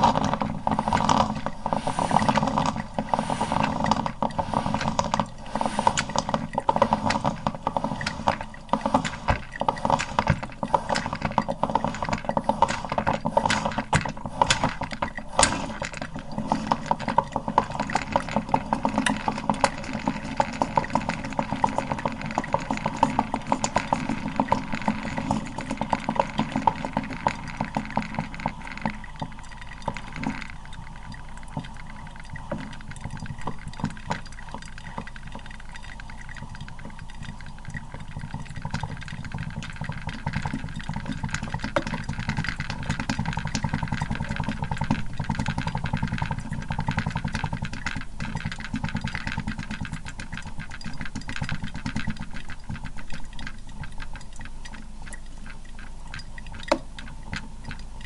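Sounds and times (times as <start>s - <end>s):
coffee maker gurgling: 0.0s - 58.0s
coffee maker hum: 0.0s - 58.0s.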